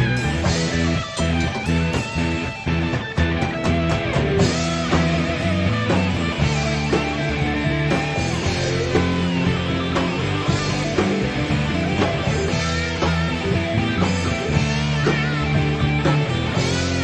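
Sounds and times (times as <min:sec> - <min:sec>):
bass and drums: 0:00.0 - 0:17.0
lead guitar bending notes: 0:00.0 - 0:17.0.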